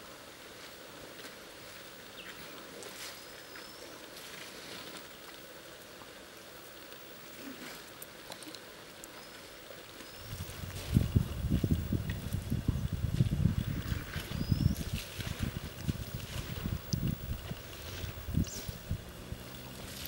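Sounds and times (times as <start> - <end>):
steady outdoor hiss: 0.0 - 20.0
water drips and splashes: 1.1 - 20.0.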